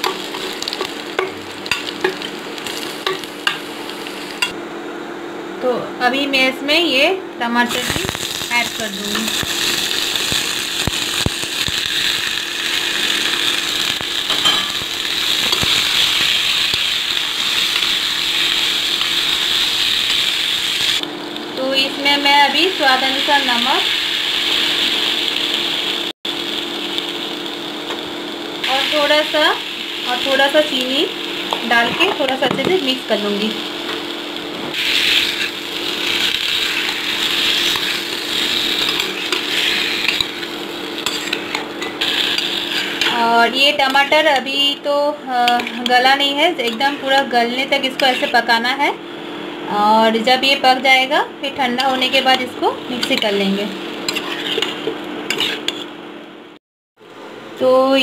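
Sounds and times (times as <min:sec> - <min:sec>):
food sizzling in hot oil: 0:00.0 - 0:04.5, 0:07.6 - 0:48.7, 0:51.5 - 0:56.0
induction cooktop hum: 0:00.0 - 0:58.0.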